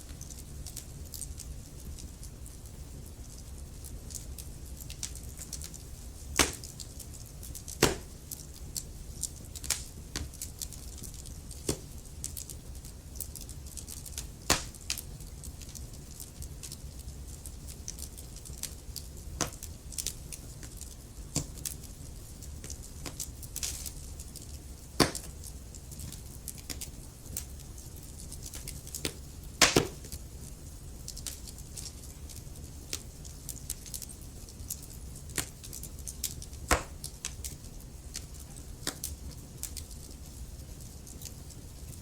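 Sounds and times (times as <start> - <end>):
burning logs crackling: 0.0 - 42.0
low steady fire rumble: 0.0 - 42.0.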